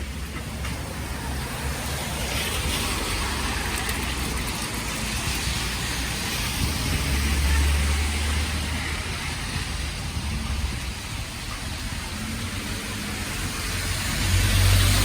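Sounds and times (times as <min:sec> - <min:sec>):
low traffic rumble: 0:00.0 - 0:15.0
car tyres hissing on snow: 0:00.8 - 0:15.0.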